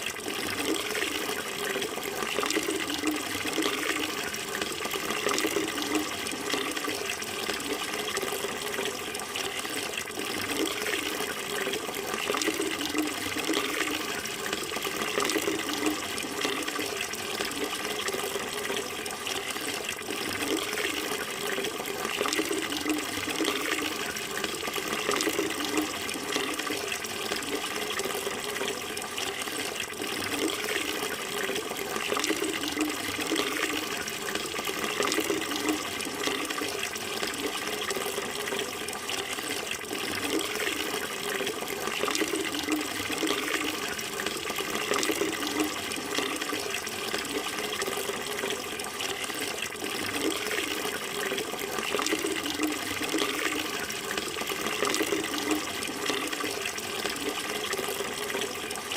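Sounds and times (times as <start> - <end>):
running water flowing: 0.0 - 58.9.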